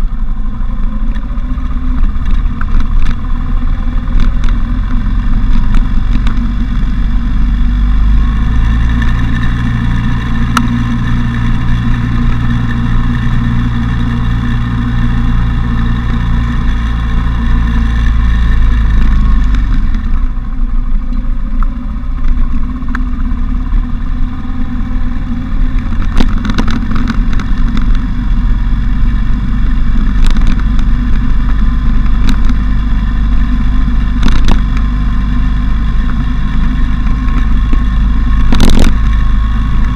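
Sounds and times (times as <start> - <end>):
low wind rumble: 0.0 - 39.9
motorcycle engine running: 0.0 - 39.9.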